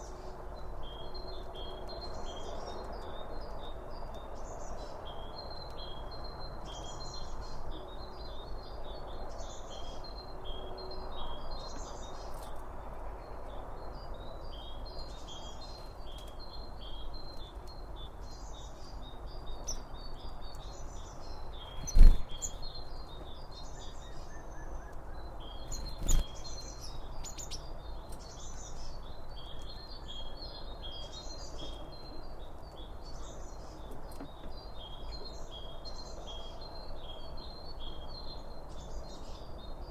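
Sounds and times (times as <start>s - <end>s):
birds chirping: 0.0s - 39.9s
outdoor background hiss: 0.0s - 39.9s.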